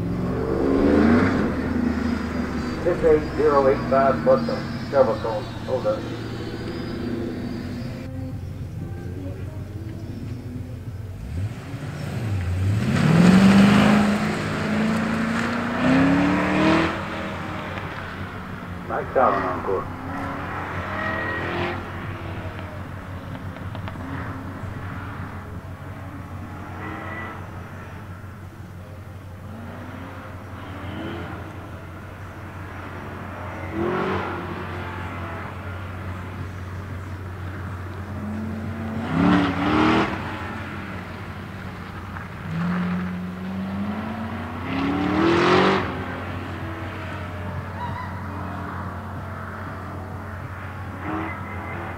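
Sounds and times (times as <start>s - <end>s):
car engine pulling hard: 0.0s - 51.9s.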